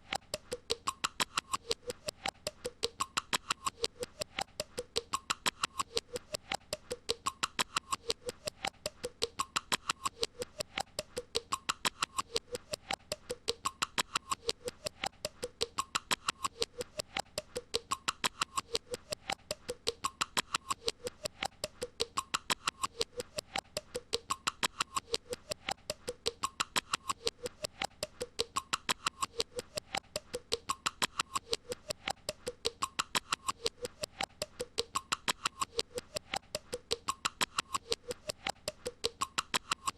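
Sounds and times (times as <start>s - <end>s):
rapid even clicks: 0.0s - 39.9s.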